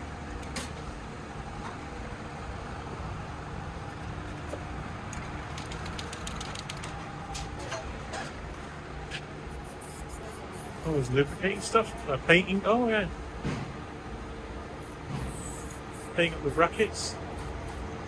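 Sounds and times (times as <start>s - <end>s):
workshop low rumble: 0.0s - 18.0s.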